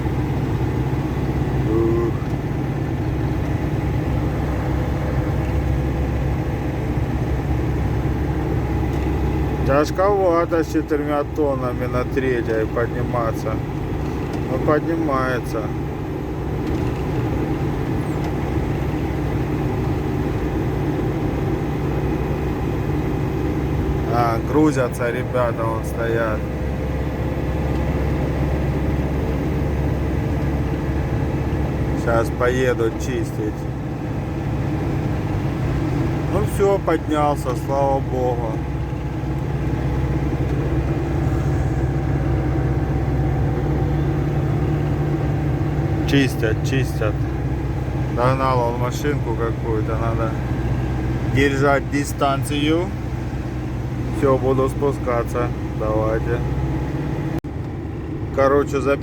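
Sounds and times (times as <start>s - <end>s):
road noise: 0.0s - 59.0s
truck diesel engine droning: 0.0s - 59.0s.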